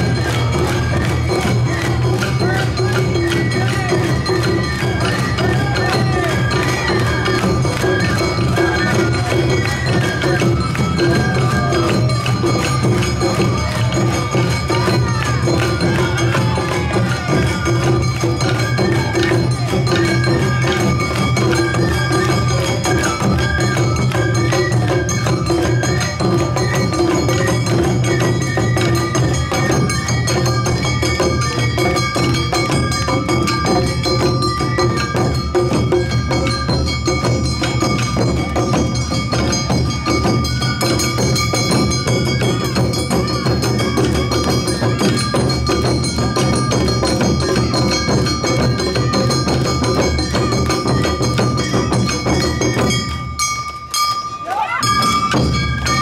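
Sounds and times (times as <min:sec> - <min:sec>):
bamboo flute melody: 0:00.0 - 0:53.6, 0:54.3 - 0:56.0
shamisen: 0:00.0 - 0:56.0
taiko drums: 0:00.0 - 0:56.0.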